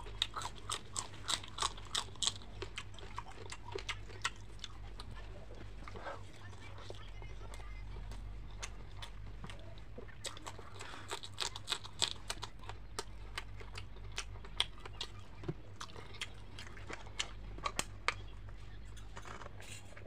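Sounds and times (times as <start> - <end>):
chewing crunchy chilli: 0.0 - 20.0.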